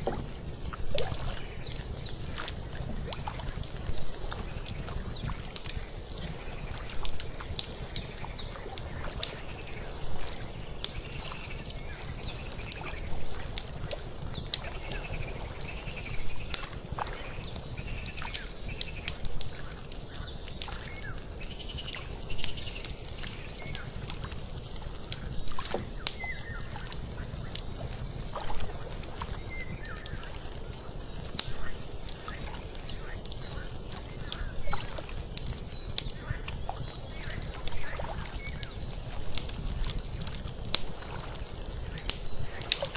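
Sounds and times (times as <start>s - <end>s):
water lapping: 0.0s - 19.9s, 24.2s - 42.9s
open fire crackling: 0.0s - 42.9s.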